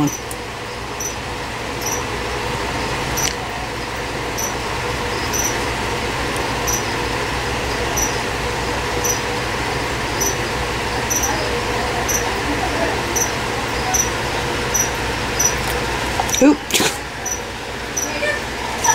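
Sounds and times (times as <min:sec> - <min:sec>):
mechanical hum and hiss: 0:00.0 - 0:18.9.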